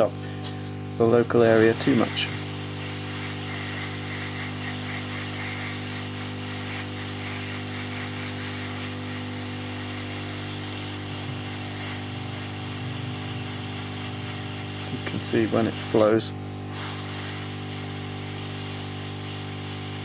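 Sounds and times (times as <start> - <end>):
hot-air gun motor hum: 0.0 - 20.0.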